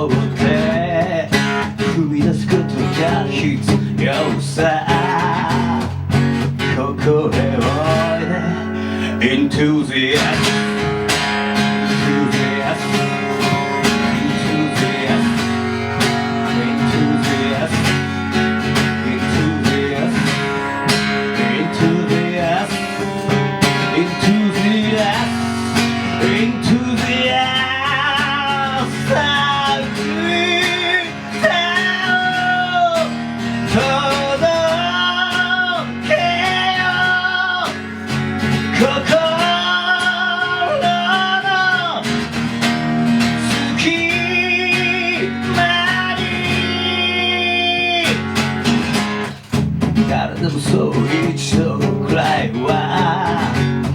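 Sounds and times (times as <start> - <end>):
guitars over drums and bass: 0.0 - 53.9
high lead guitar melody: 0.0 - 53.9.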